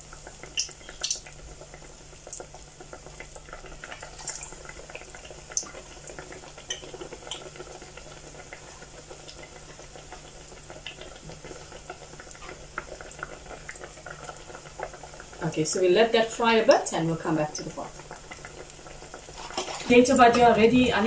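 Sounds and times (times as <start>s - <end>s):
food deep-frying in hot oil: 0.0s - 21.0s.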